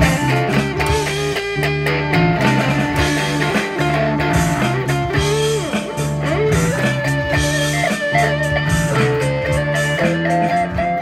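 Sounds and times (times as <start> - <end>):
bass notes: 0.0 - 11.0
drums: 0.0 - 11.0
electric guitar bending notes: 0.0 - 11.0.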